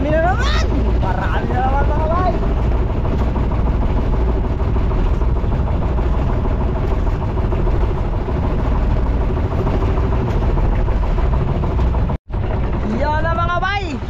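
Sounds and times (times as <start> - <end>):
boat engine running steadily: 0.0 - 14.0
water rushing past a hull: 0.0 - 14.0
wind: 0.0 - 14.0.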